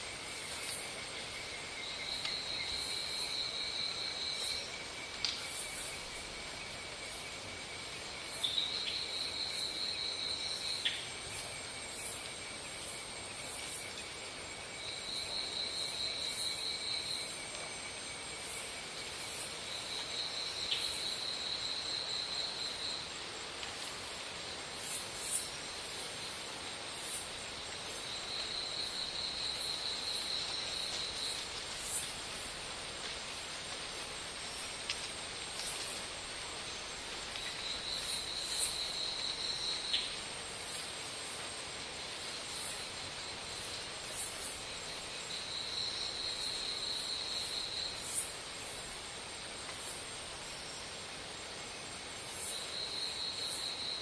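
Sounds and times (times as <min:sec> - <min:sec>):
constant hiss: 0:00.0 - 0:54.0
insects trilling: 0:00.0 - 0:54.0.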